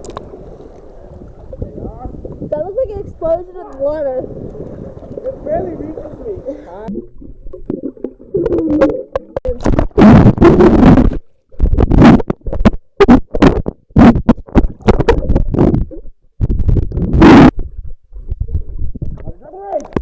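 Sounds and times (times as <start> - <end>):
underwater churning rumble: 0.0 - 17.5.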